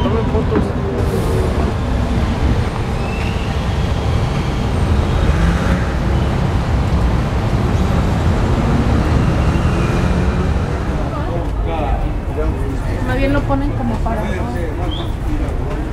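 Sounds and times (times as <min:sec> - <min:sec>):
street traffic: 0:00.0 - 0:15.9
vehicle engines running: 0:00.0 - 0:15.9.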